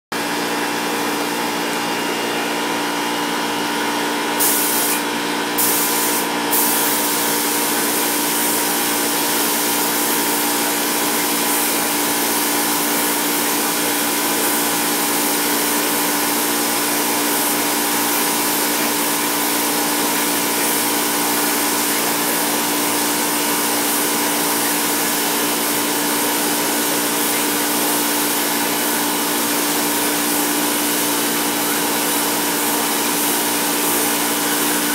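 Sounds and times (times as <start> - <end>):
paint spray gun hissing: 4.4 - 34.9.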